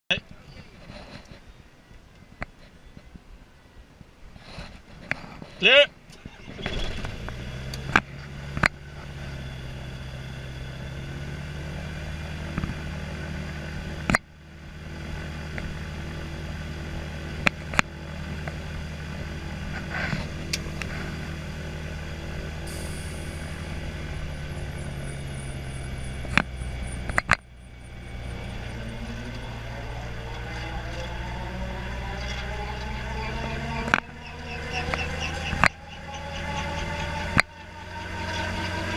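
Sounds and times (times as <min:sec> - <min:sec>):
rising whine: 0:05.6 - 0:38.9
piston engine starting and idling: 0:06.1 - 0:38.9.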